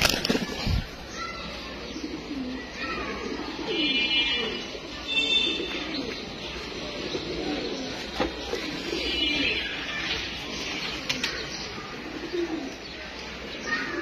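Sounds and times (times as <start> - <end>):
pigeons cooing: 1.7 - 14.0.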